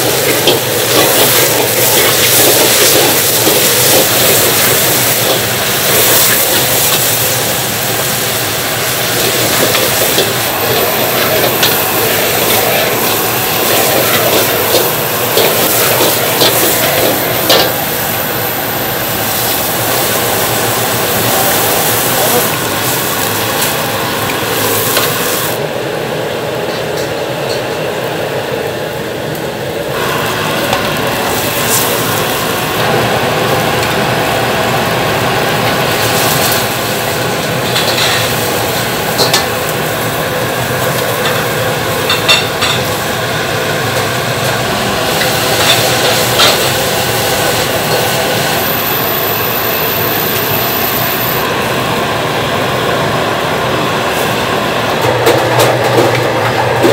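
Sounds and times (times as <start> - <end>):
food sizzling in a wok: 0.0 - 25.6, 29.9 - 54.5
gas burner roaring: 0.0 - 56.9.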